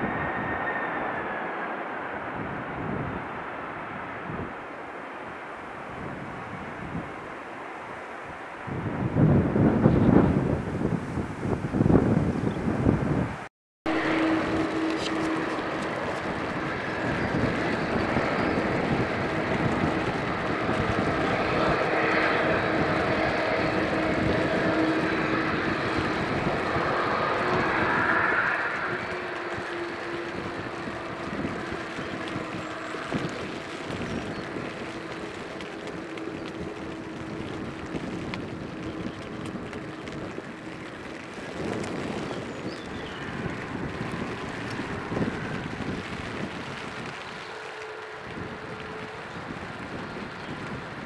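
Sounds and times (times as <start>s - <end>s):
jet airliner engines rushing: 0.0s - 51.0s.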